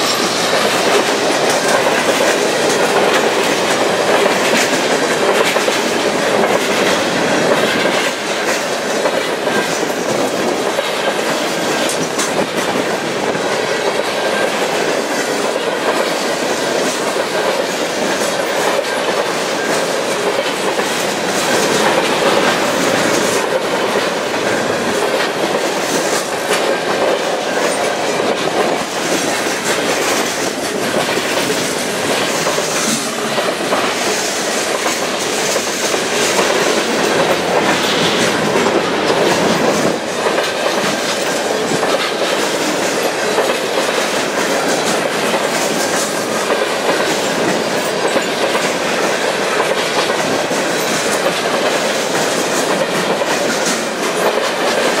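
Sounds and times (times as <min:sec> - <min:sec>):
train wheels rumbling and rattling: 0:00.0 - 0:55.0.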